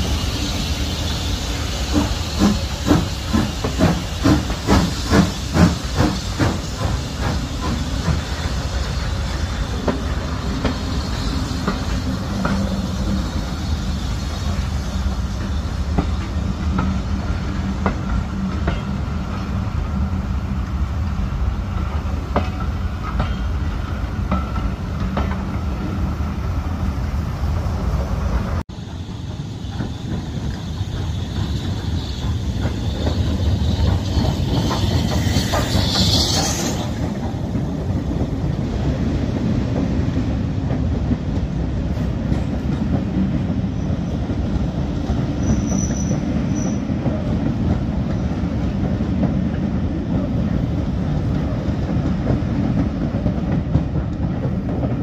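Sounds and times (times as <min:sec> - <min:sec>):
steam hissing: 0:00.0 - 0:55.0
steam locomotive exhaust beats: 0:00.0 - 0:55.0
train coaches rumbling: 0:00.0 - 0:55.0.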